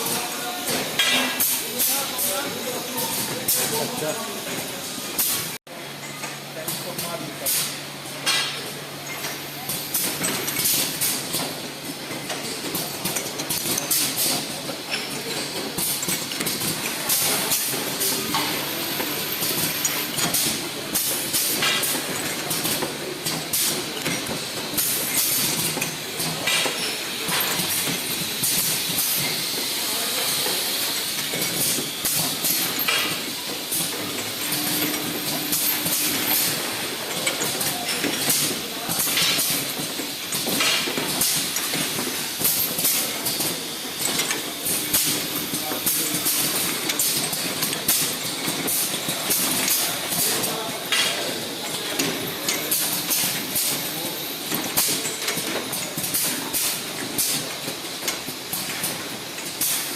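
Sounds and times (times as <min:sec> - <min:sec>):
filling machine running: 0:00.0 - 0:59.9.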